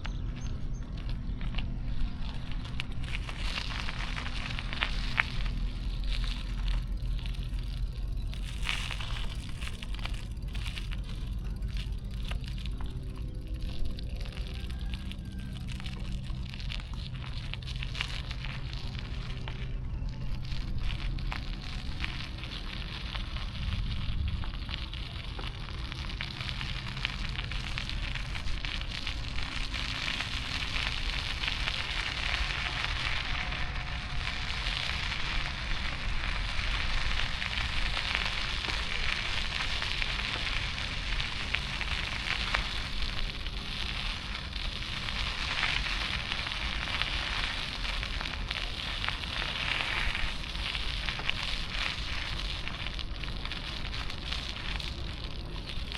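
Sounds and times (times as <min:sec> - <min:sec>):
road noise while cycling: 0:00.0 - 0:55.9.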